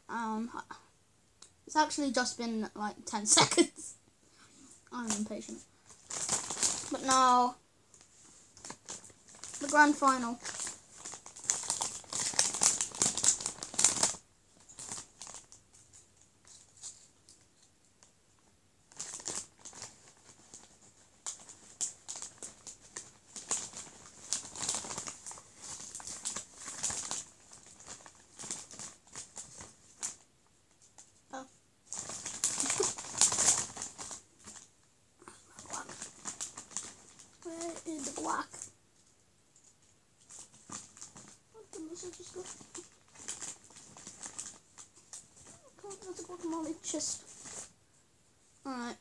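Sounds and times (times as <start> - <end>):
crisp packet crinkling: 4.9 - 7.4, 8.0 - 17.5, 18.9 - 31.1, 31.9 - 38.8, 39.6 - 47.7.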